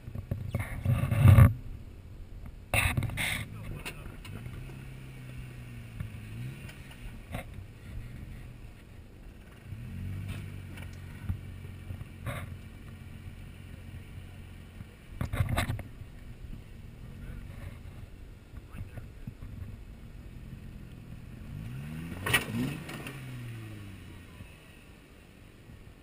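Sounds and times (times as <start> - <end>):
engine running at low revs: 0.0 - 26.0.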